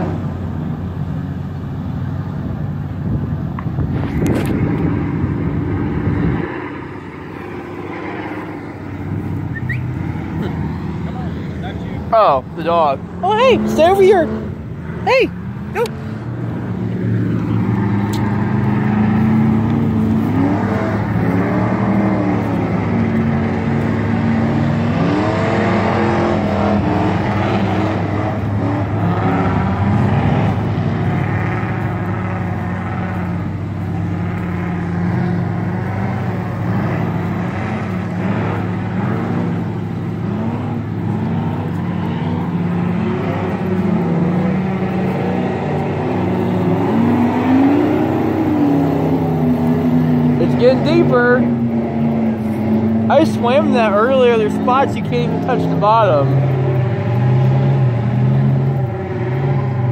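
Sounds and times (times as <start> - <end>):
pickup truck engine revving: 0.0 - 59.9.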